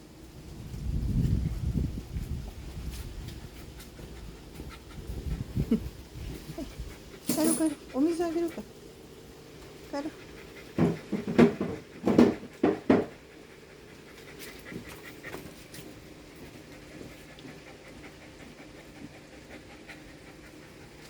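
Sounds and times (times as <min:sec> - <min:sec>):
dog panting: 0:02.1 - 0:21.0.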